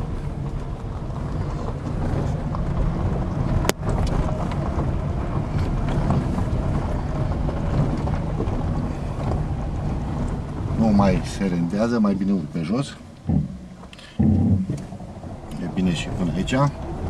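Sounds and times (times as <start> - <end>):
car engine pulling uphill: 0.0 - 17.0.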